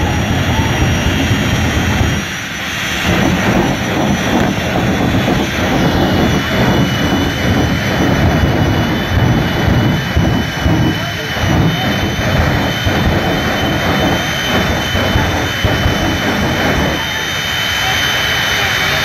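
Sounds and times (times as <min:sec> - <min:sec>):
steady high whine: 0:00.0 - 0:19.0
turbine engine roaring: 0:00.0 - 0:19.0.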